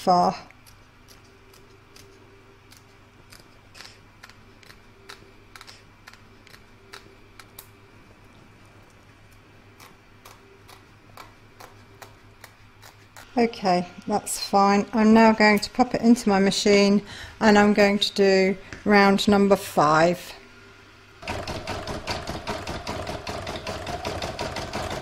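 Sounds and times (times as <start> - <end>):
low steady hum: 0.0 - 21.9.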